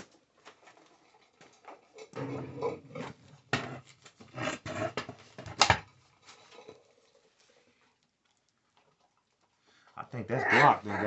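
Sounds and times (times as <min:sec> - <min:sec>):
objects being handled and moved: 0:00.0 - 0:10.0.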